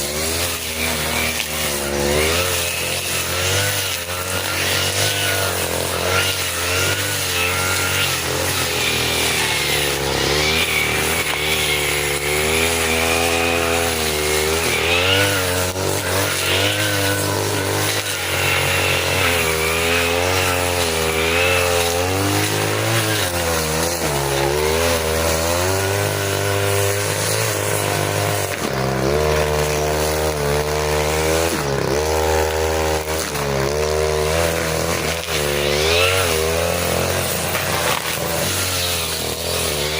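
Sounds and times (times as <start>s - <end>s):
brush cutter running hard: 0.0s - 39.9s.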